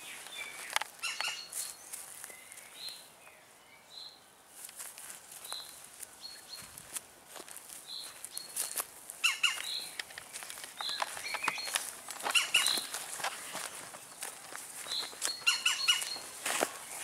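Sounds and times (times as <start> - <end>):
light scuffs and clicks: 0.0 - 3.1, 4.5 - 17.0
birds chirping: 0.0 - 4.5, 5.3 - 6.8, 7.8 - 17.0.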